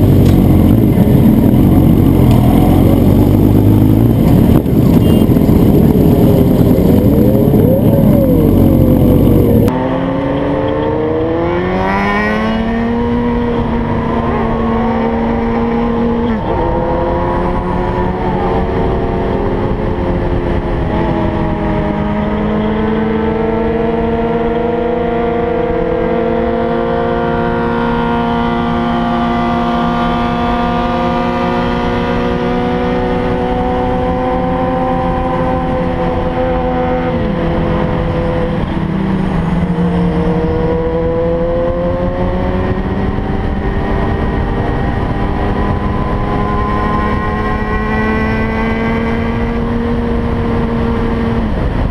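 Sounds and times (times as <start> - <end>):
low wind rumble: 0.0 - 51.9
motorcycle engine cruising: 0.0 - 51.9.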